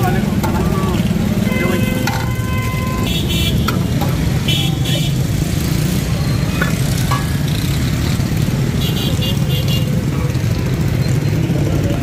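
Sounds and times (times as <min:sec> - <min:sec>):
street traffic engine rumble: 0:00.0 - 0:12.0.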